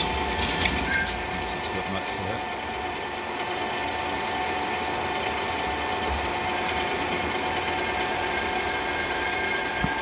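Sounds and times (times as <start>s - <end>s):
lathe running with whine: 0.0s - 10.0s.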